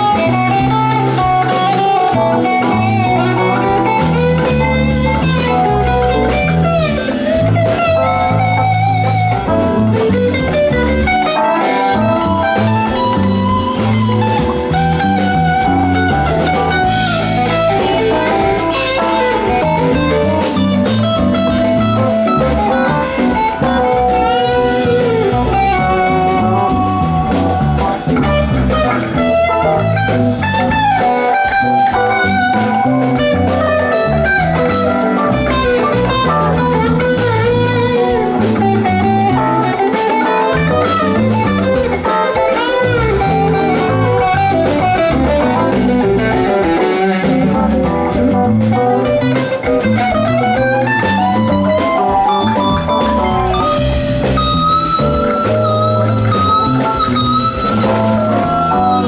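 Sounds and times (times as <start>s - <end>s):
drum kit: 0.0s - 59.0s
electric bass: 0.0s - 59.0s
electric guitar lead lines: 0.0s - 59.0s.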